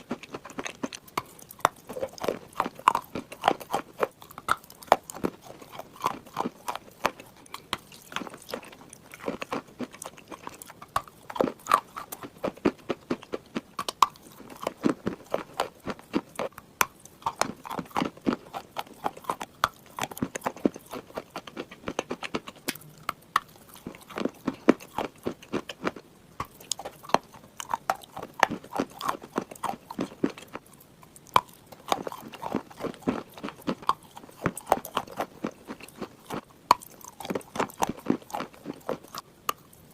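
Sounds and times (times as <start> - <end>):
teeth crunching clay chunks: 0.0 - 39.9.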